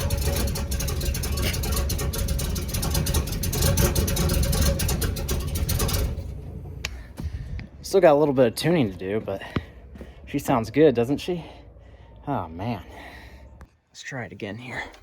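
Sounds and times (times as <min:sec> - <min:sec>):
v eight engine pulsing exhaust: 0:00.0 - 0:13.7.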